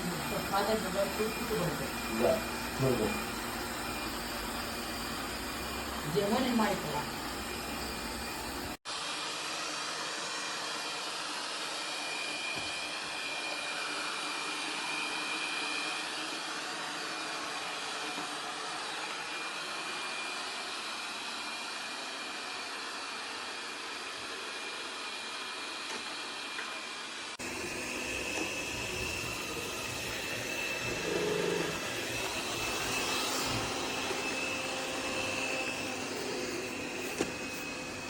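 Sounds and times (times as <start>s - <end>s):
robot vacuum suction whine: 0.0s - 38.0s.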